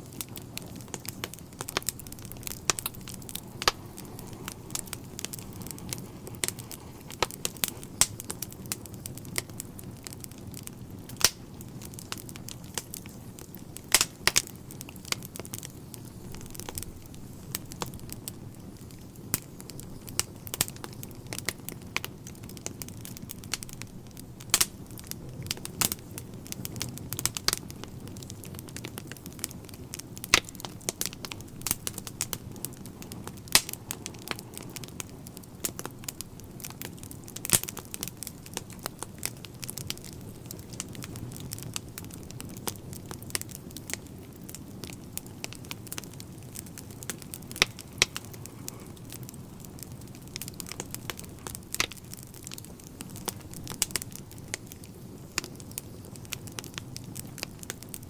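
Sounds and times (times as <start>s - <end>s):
burning logs popping: 0.0s - 58.0s
wood fire crackling: 0.0s - 58.0s.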